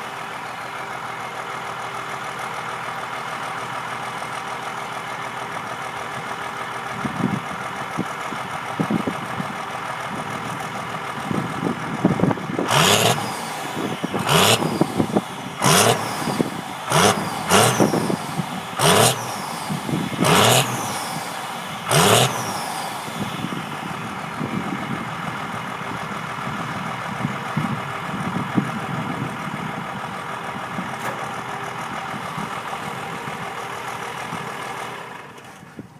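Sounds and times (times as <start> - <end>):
diesel engine idling and revving: 0.0 - 35.9.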